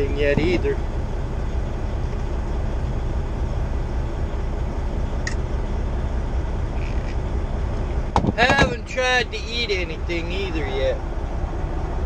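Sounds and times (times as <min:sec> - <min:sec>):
road noise inside cab: 0:00.0 - 0:12.0
truck engine rumbling: 0:00.0 - 0:12.0.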